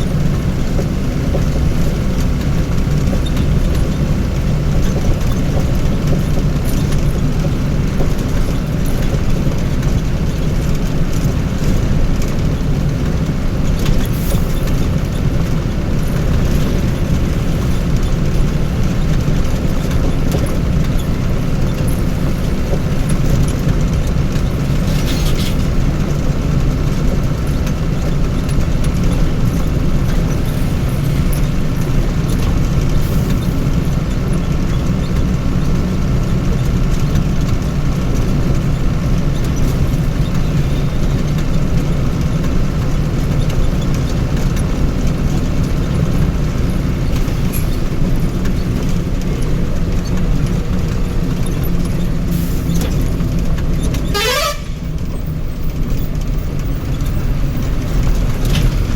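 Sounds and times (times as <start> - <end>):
vehicle engine running: 0.0 - 58.9.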